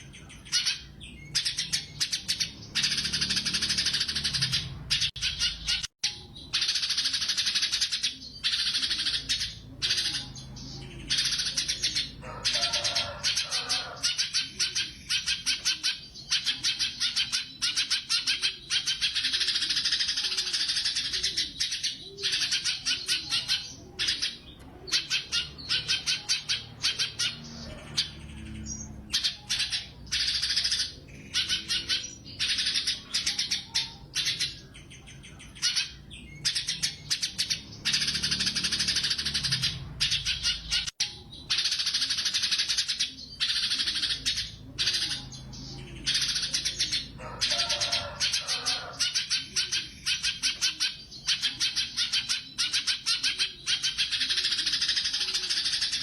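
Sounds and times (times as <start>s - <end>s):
bird singing trilled bursts: 0.0s - 56.0s.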